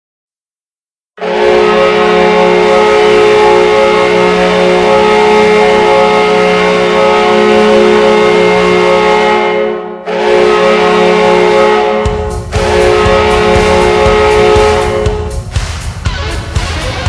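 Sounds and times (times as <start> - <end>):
arena goal horn blast: 1.2 - 15.4.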